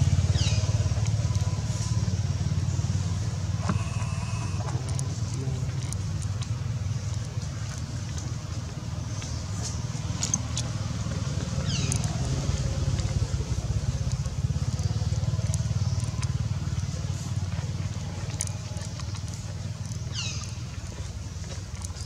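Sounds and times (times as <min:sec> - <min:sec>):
steady low rumble: 0:00.0 - 0:22.0
faint clicks: 0:03.5 - 0:22.0.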